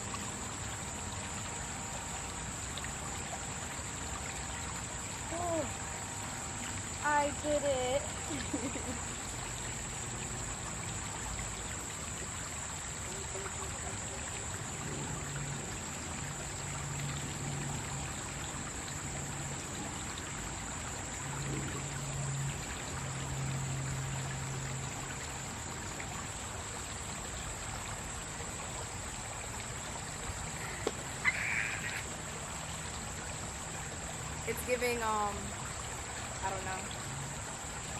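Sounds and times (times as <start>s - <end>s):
stream trickling over rocks: 0.0s - 37.9s.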